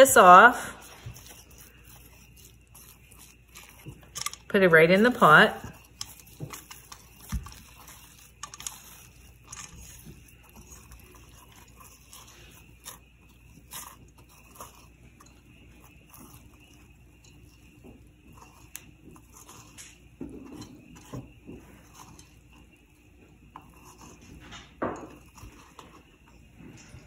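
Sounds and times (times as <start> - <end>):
fork scraping squash: 0.0 - 22.8, 23.5 - 27.0.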